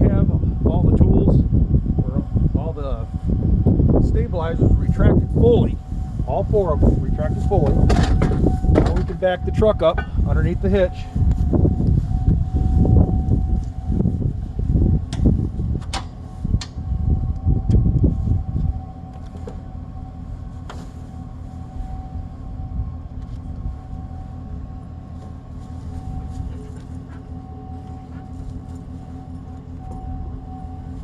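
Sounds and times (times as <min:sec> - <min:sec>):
loud irregular low rumbles: 0:00.0 - 0:31.0
truck engine running: 0:00.0 - 0:31.0.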